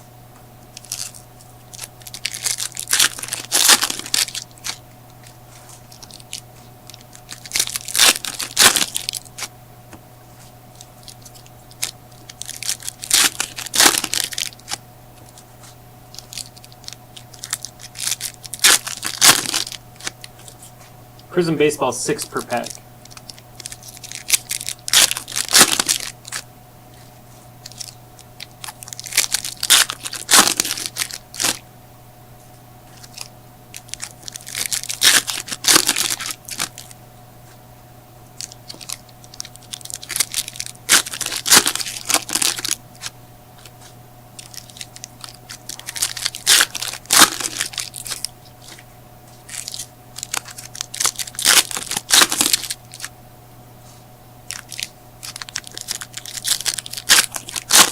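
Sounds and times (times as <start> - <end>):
card pack wrappers tearing and crinkling: 0.8 - 9.5, 10.7 - 15.4, 16.1 - 20.7, 21.4 - 31.6, 32.9 - 37.0, 38.4 - 43.8, 44.4 - 53.1, 54.5 - 57.9.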